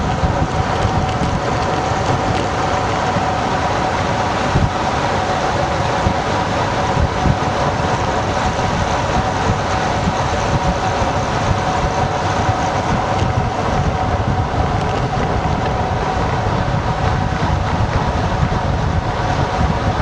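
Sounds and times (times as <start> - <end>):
tyres rolling on asphalt: 0.0 - 20.0
wind buffeting microphone: 0.0 - 20.0.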